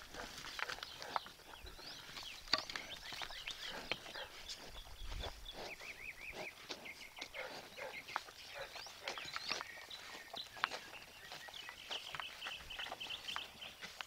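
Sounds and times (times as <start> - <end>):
cattle clicks and knocks: 0.0 - 14.0
small birds chirping: 0.0 - 14.0.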